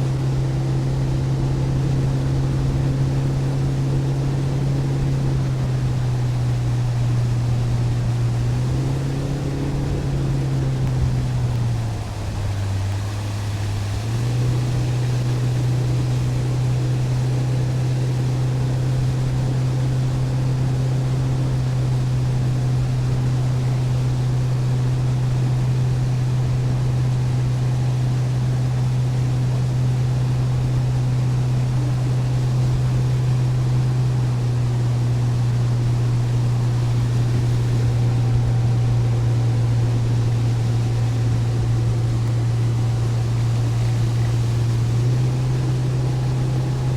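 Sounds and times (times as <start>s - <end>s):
boat motor running: 0.0s - 46.9s.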